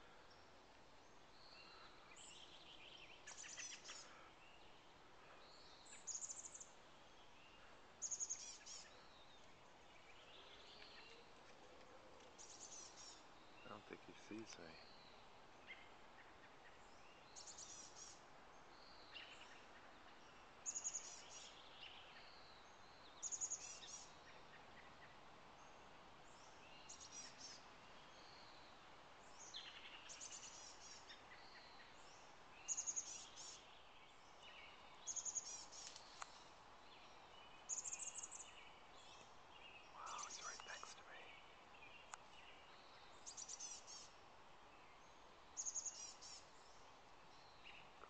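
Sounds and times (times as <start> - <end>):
faint background hiss: 0.0 - 48.0
faint bird chirps: 0.0 - 48.0.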